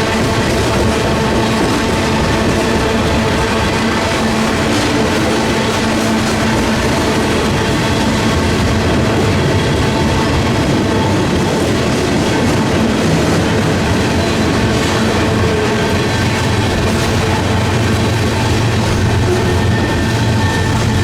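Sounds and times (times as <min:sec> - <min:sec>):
freight train cars clattering: 0:00.0 - 0:21.0
wind buffeting microphone: 0:00.0 - 0:21.0.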